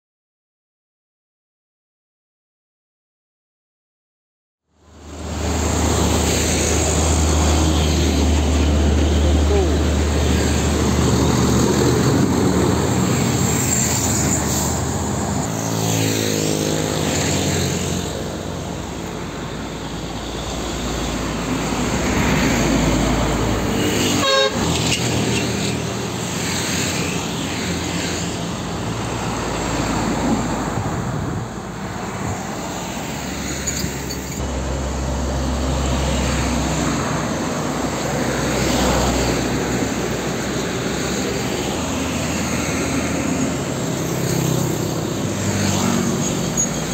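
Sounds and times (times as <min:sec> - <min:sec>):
road and traffic noise: 0:04.6 - 0:46.9
diesel trucks driving past: 0:04.9 - 0:46.9.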